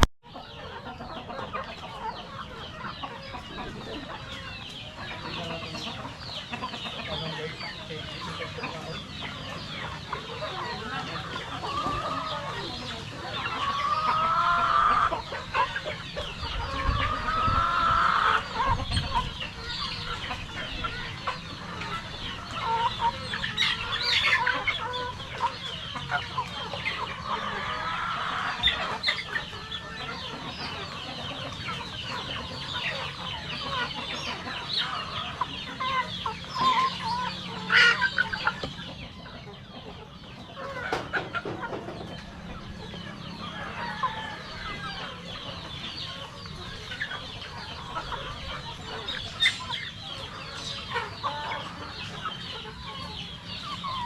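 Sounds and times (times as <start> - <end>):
chickens clucking: 0.0 - 54.0
drawn-out chicken calls: 0.0 - 54.0.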